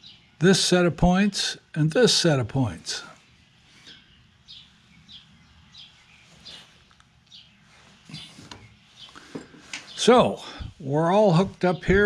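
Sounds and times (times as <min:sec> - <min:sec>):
bird chirping: 0:00.0 - 0:00.6, 0:01.6 - 0:12.0.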